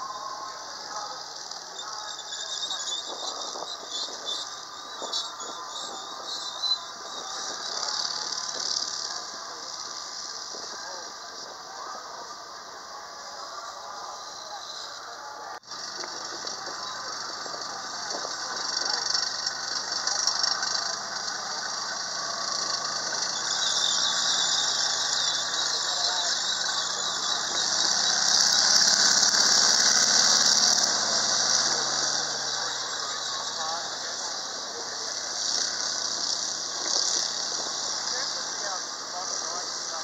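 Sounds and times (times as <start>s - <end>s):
tracked vehicle engine: 0.0s - 40.0s
tracks squealing: 0.0s - 40.0s.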